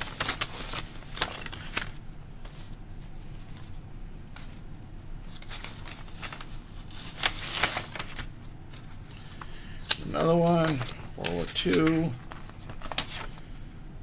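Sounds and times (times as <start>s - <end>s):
paper shuffling and rustling: 0.0s - 13.6s.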